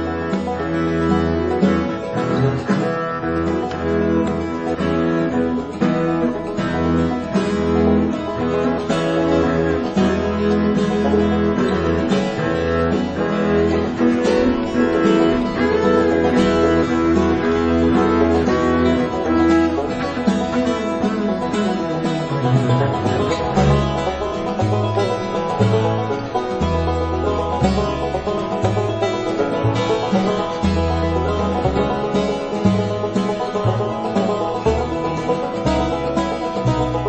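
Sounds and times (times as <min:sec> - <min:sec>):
low bass line: 0:00.0 - 0:37.0
plucked guitar: 0:00.0 - 0:37.0.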